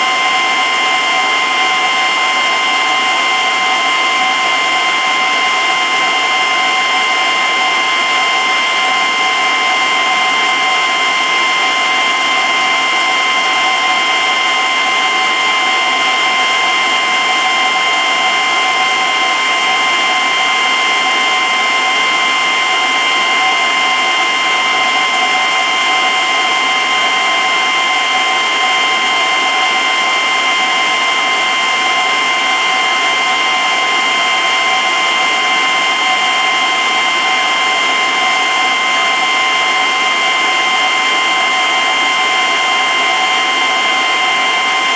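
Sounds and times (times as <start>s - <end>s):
pump motor whine: 0.0s - 44.9s.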